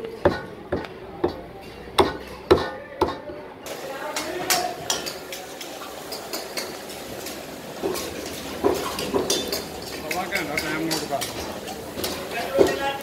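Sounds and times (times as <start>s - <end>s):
metal woks and utensils clanking: 1.3s - 13.0s.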